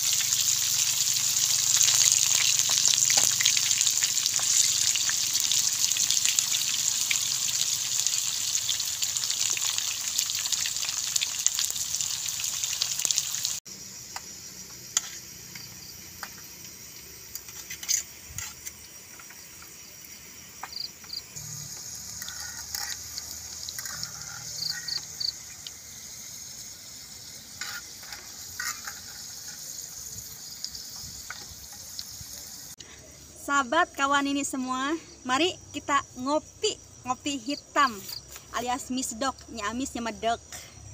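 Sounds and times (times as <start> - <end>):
food sizzling in hot oil: 0.0 - 32.8.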